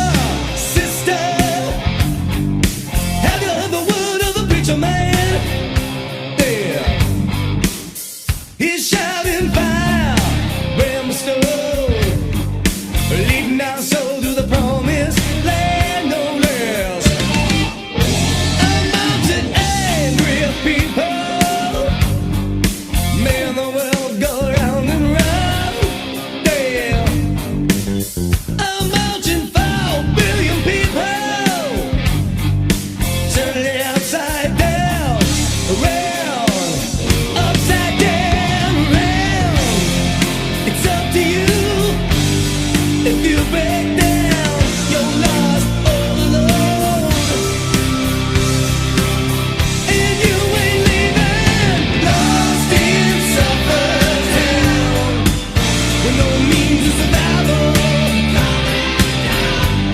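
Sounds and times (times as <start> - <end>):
lead vocal singing: 0.0 - 2.1, 2.9 - 7.1, 7.8 - 32.2, 33.0 - 59.9
bass: 0.0 - 8.4, 9.2 - 59.9
distorted electric guitar: 0.0 - 59.9
drums: 0.0 - 59.9
hard rock band playing: 0.0 - 59.9.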